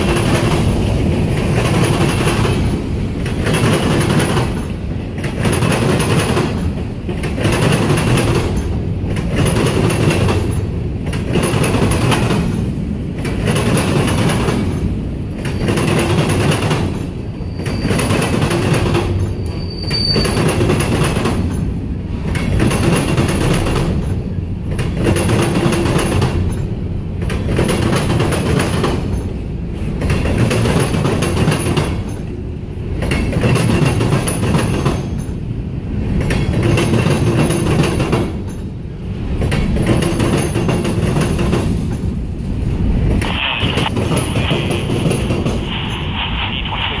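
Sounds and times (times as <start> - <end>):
freight train wheels rumbling on rail: 0.0 - 47.0.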